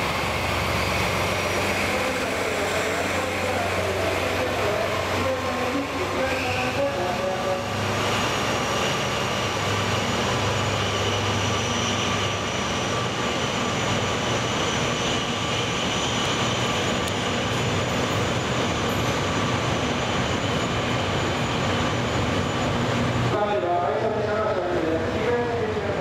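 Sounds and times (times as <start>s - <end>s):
train wheels on rail: 0.0s - 23.4s.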